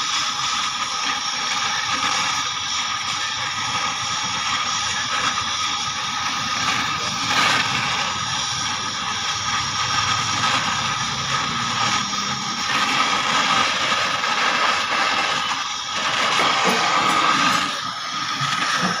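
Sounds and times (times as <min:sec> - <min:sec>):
welding torch flame hissing: 0:00.0 - 0:19.0.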